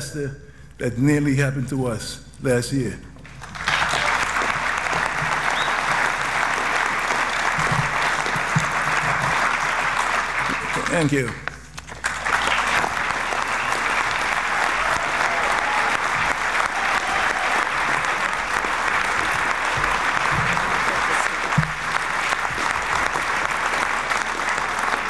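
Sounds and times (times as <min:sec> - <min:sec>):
audience applauding: 0:03.2 - 0:25.0.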